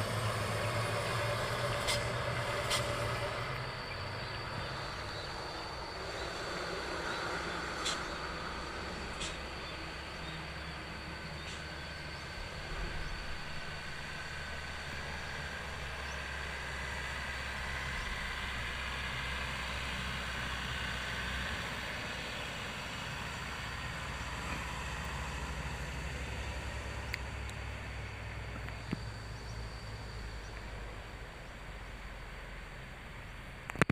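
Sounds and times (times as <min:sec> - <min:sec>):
truck engine rumbling low: 0:00.0 - 0:33.9.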